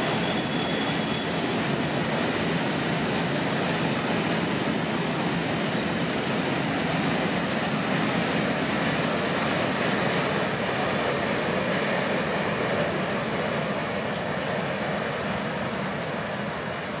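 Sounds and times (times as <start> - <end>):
freight wagons rolling on rails: 0.0 - 17.0.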